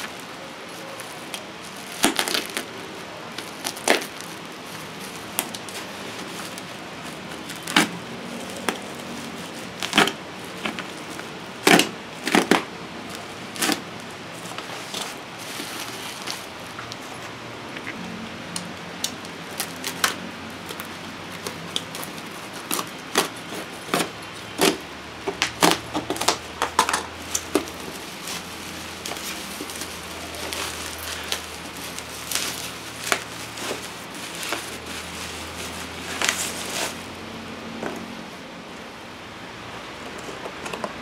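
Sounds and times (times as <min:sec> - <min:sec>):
plastic wrapping crinkling: 0:00.0 - 0:17.2, 0:19.0 - 0:37.2.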